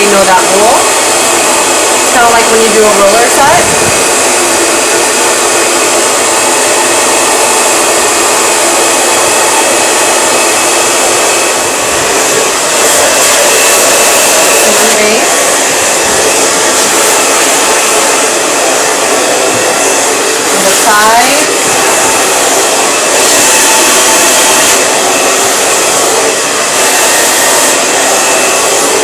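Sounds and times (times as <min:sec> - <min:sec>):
blow dryer running: 0:00.0 - 0:29.0.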